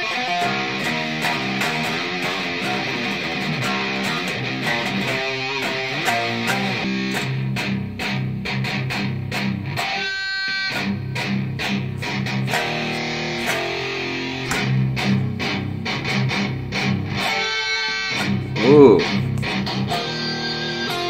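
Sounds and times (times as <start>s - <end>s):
electric guitar playing: 0.0s - 21.0s.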